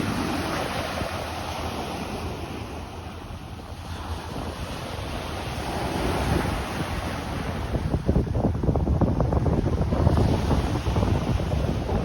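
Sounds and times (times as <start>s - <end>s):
waves washing onto beach: 0.0s - 12.0s
wind on microphone: 0.0s - 12.0s.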